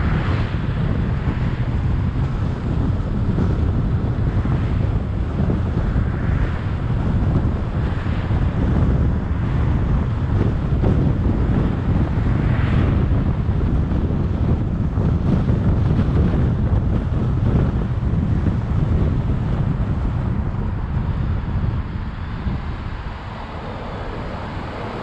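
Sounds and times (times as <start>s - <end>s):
tyre and road noise: 0.0s - 25.0s
wind buffeting microphone: 0.0s - 25.0s.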